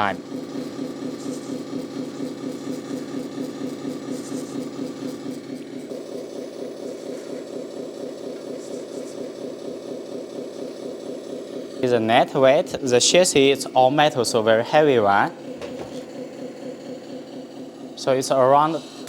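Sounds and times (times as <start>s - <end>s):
simulated diesel engine idling: 0.0s - 19.0s.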